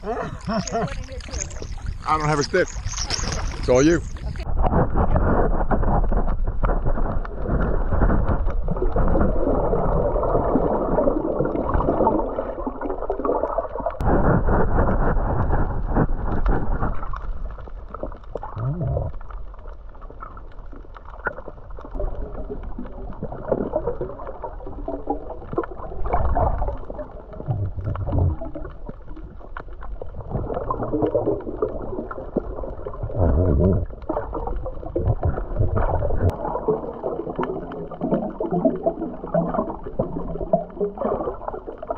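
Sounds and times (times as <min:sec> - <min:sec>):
muffled underwater sloshing: 0:00.0 - 0:41.9.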